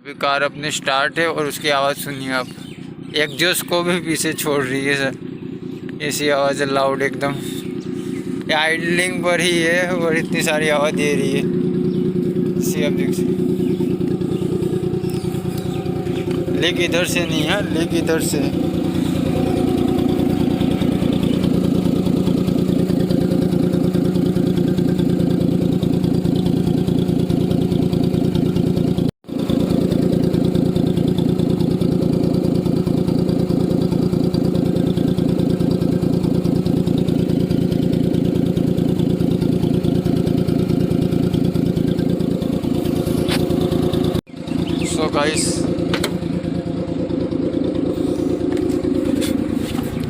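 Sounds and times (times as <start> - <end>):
rapid exhaust pulsing: 0.0 - 50.0
car engine idling: 0.1 - 50.0.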